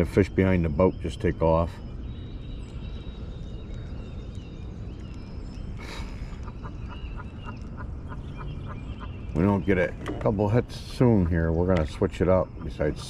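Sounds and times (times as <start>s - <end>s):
birds calling: 0.0s - 13.0s
steady low rumble: 0.0s - 13.0s.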